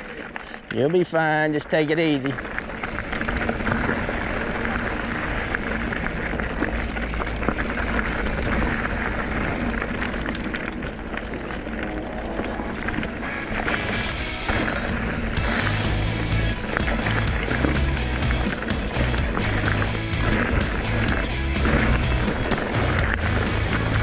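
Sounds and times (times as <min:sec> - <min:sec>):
bike rattling and clicking: 0:00.0 - 0:24.0
tyres rolling on dirt: 0:00.0 - 0:24.0.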